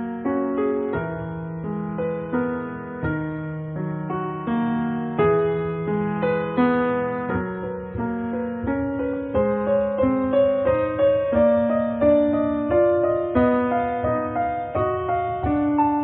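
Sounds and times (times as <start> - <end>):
slow gentle piano tune: 0.0 - 16.0.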